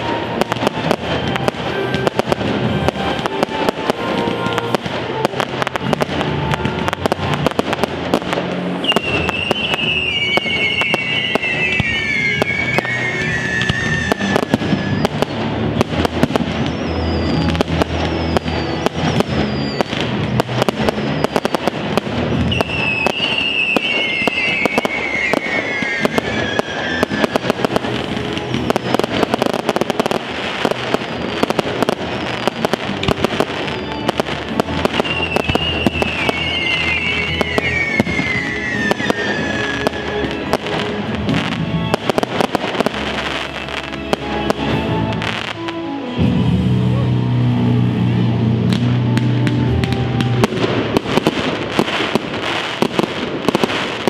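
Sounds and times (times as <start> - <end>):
fireworks crackling and banging: 0.0 - 54.0
music playing: 0.0 - 54.0.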